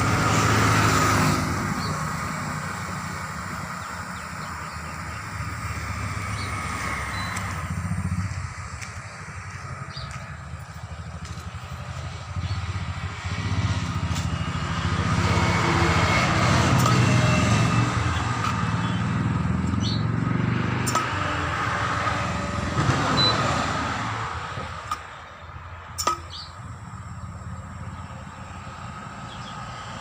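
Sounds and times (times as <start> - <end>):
motor pulsing rumble: 0.0 - 30.0.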